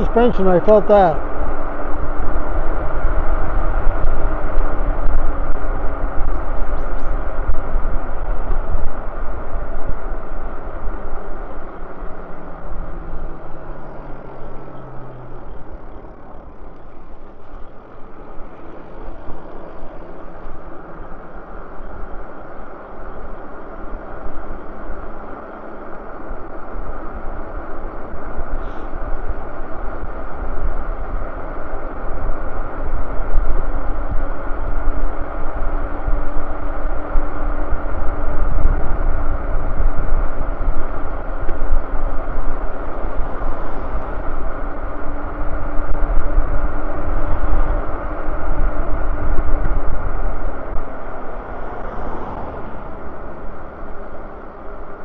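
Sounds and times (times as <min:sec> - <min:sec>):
faint motor hum: 0:00.0 - 0:55.0
wind buffeting the microphone: 0:01.2 - 0:22.4, 0:26.4 - 0:51.4.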